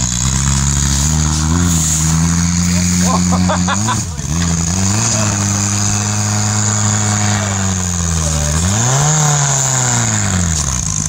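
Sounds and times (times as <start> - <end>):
buggy engine working hard: 0.0 - 11.0.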